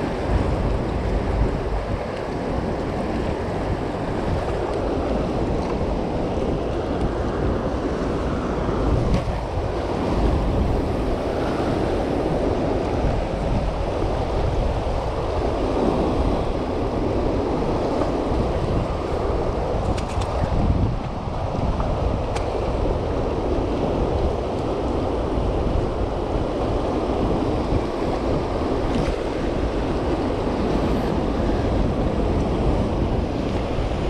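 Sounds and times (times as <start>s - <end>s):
turbulent water roaring: 0.0s - 34.0s
wind buffeting microphone: 0.0s - 34.0s.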